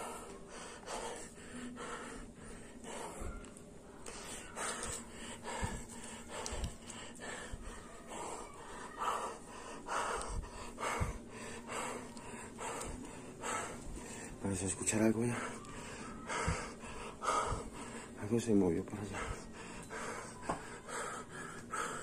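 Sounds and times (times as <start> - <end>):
close breathing: 0.0 - 22.0.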